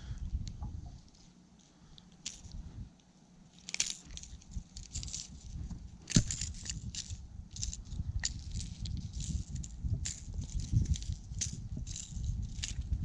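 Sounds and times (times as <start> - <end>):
crackling handling noises: 0.0 - 13.0.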